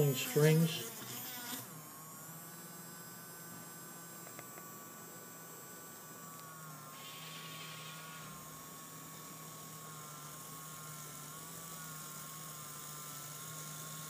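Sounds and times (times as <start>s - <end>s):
small motor whining: 0.0s - 14.0s.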